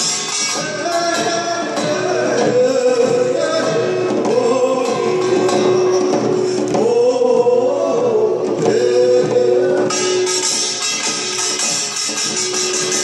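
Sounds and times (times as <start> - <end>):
man singing with wavering voice: 0.0 - 11.2.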